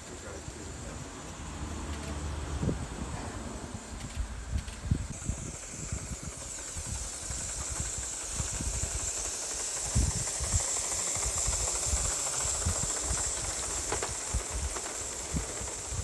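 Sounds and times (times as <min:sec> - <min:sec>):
model steam locomotive hissing: 0:00.0 - 0:16.0.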